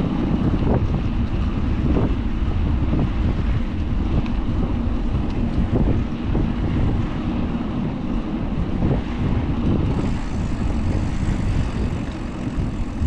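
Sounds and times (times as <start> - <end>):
wind buffeting microphone: 0.0 - 13.0
street traffic: 1.1 - 13.0.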